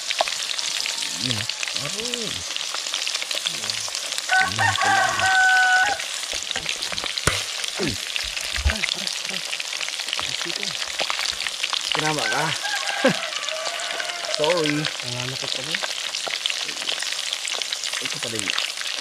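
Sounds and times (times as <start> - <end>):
food deep-frying in oil: 0.0 - 19.0.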